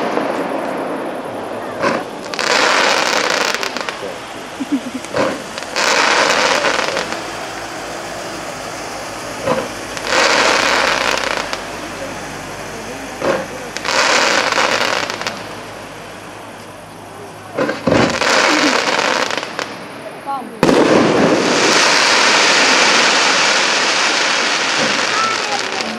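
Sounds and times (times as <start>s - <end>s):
fireworks bangs and crackling: 0.0s - 25.9s.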